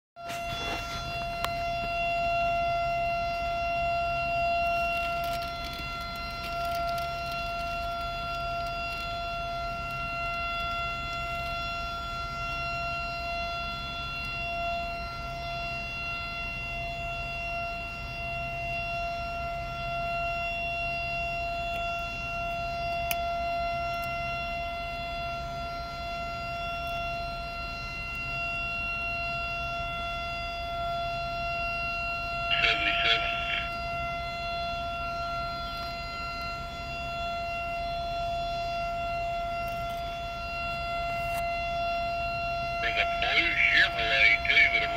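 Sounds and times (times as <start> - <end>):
warning siren steady tone: 0.2 - 44.9.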